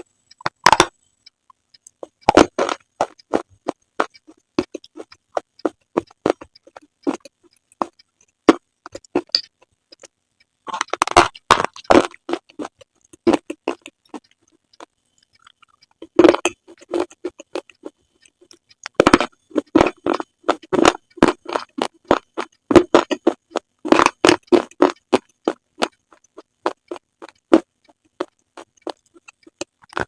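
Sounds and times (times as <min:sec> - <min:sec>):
crunching and chewing: 0:01.8 - 0:30.0.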